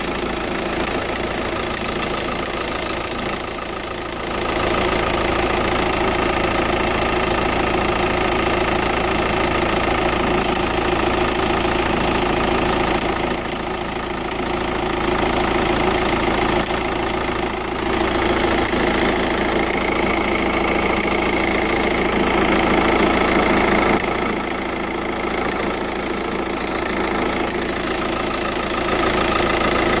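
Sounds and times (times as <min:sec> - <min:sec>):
diesel engine running with ticking: 0:00.0 - 0:30.0.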